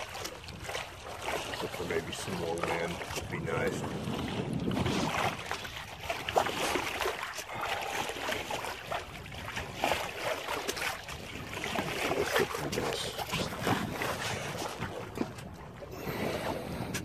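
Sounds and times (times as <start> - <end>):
water lapping against hull: 0.0 - 17.0
wind on microphone: 0.0 - 17.0.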